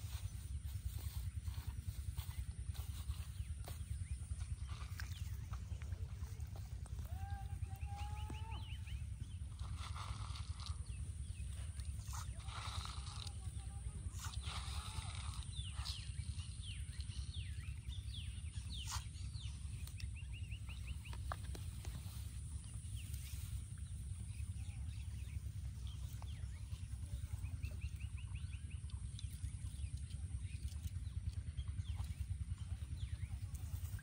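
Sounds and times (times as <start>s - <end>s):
low rumble: 0.0s - 34.0s
small birds chirping: 0.0s - 34.0s.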